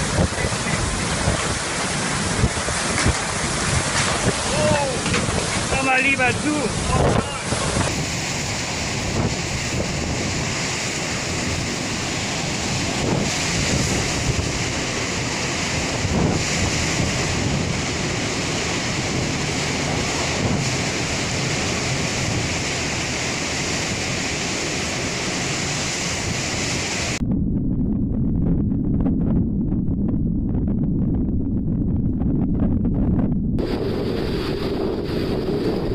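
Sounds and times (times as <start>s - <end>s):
heavy rain: 0.0s - 27.2s, 33.6s - 35.9s
muffled rumble of wind: 0.0s - 35.9s
wind buffeting microphone: 0.0s - 35.9s.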